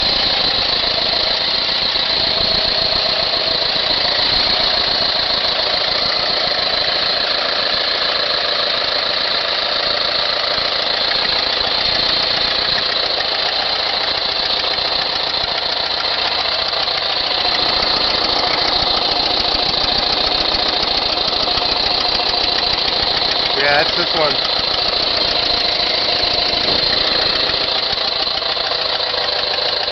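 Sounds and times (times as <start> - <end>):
car engine running: 0.0 - 29.9.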